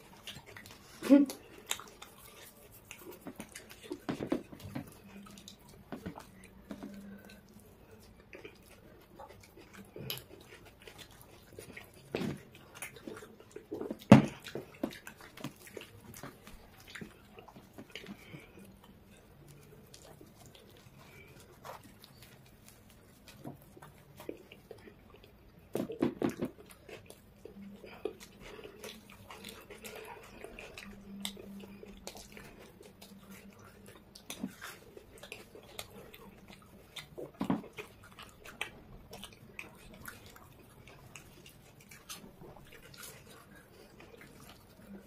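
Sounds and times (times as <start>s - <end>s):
chewing and lip smacking: 0.0s - 45.0s.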